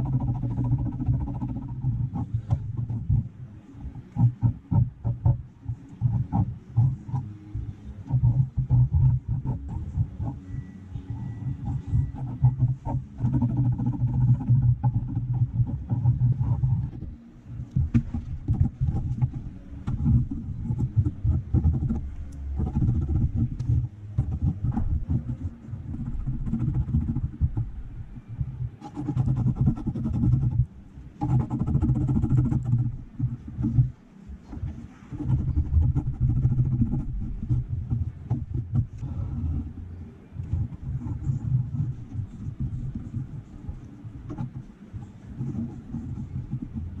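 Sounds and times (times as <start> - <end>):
pencil scratching on paper: 0.0 - 3.3, 3.9 - 27.8, 28.6 - 39.8, 40.4 - 47.0.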